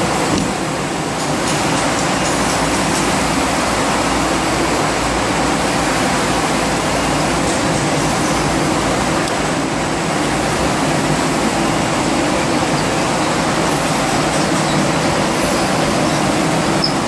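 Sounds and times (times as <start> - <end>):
machinery humming and hissing: 0.0 - 17.0.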